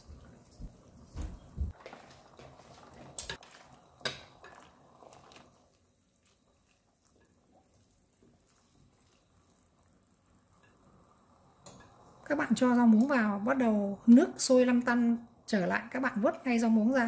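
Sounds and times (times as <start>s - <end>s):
boiling water bubbling: 0.0s - 17.0s.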